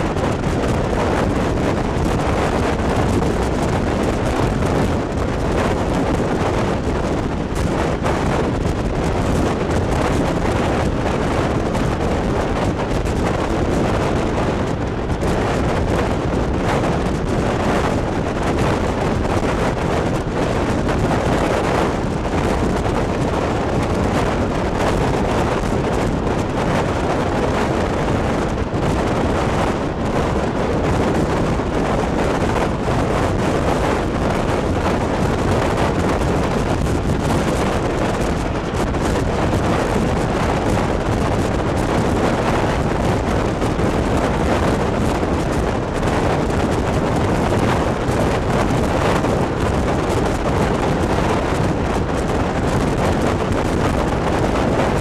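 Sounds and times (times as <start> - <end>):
train running at speed: 0.0 - 55.0
wind buffeting microphone: 0.0 - 55.0.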